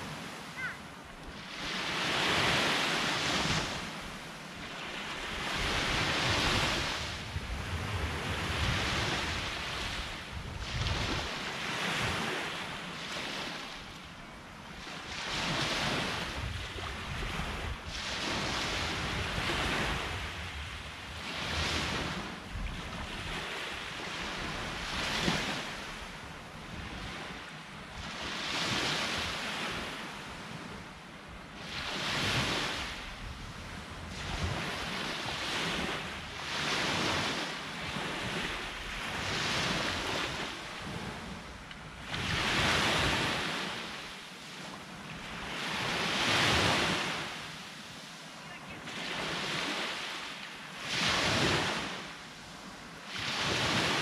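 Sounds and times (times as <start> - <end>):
wind rumble on microphone: 0.0 - 47.4, 50.8 - 54.0
sea waves breaking on shore: 0.0 - 54.0.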